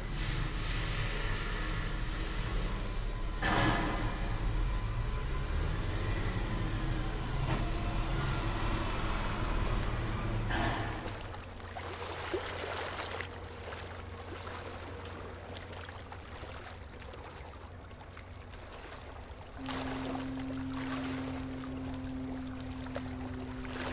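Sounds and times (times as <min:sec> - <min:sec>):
vehicle low rumble: 0:00.0 - 0:23.9.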